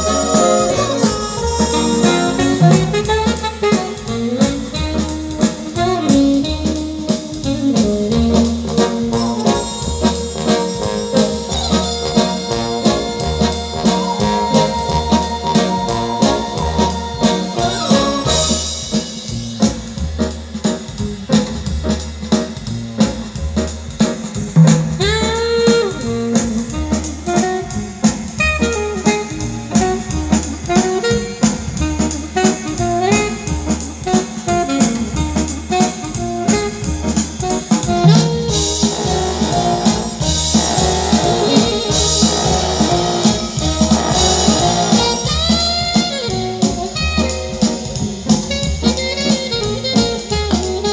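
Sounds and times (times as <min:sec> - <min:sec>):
jazzy instrumental music: 0:00.0 - 0:50.9
pulsing bass beat: 0:00.0 - 0:50.9.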